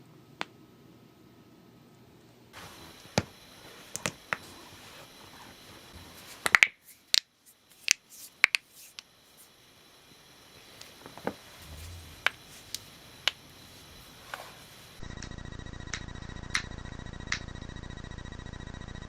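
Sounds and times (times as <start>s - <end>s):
electrical hum with whining tones: 0.0s - 19.0s.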